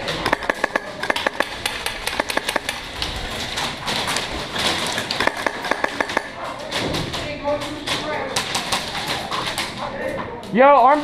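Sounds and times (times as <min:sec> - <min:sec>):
airsoft guns firing: 0:00.0 - 0:09.6.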